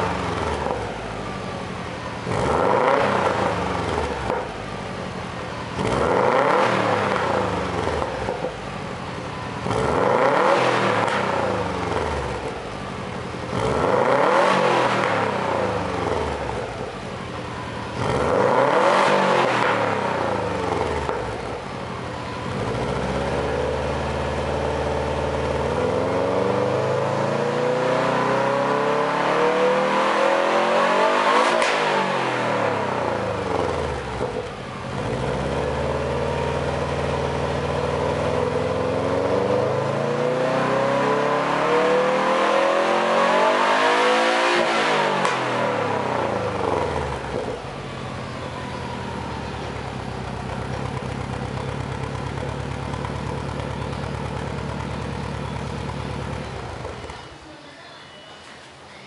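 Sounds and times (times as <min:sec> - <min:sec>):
car engine revving: 0:02.1 - 0:04.6, 0:05.6 - 0:57.2.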